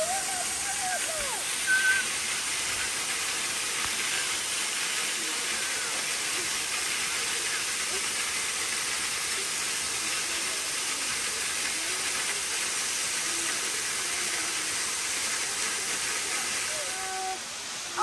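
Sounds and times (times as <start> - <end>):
waterfall splashing into pool: 0.0 - 18.0.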